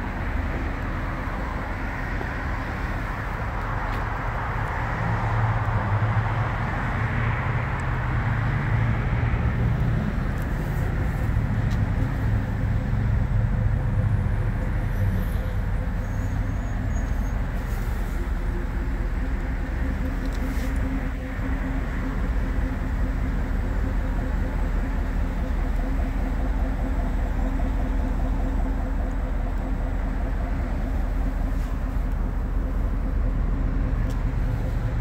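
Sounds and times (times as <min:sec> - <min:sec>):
motor vehicle rumble: 0:00.0 - 0:35.0.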